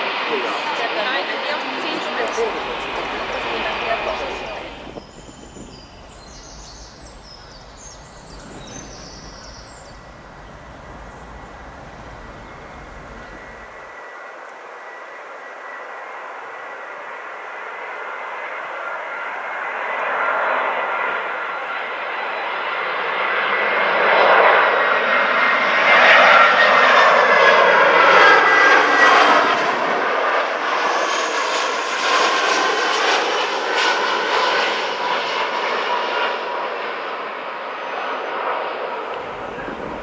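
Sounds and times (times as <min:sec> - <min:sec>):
jet airliner passing overhead: 0:00.0 - 0:40.0.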